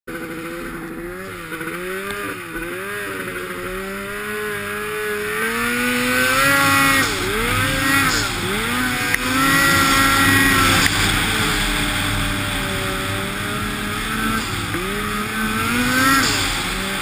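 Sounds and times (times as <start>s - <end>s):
snowmobile engine revving: 0.1s - 17.0s.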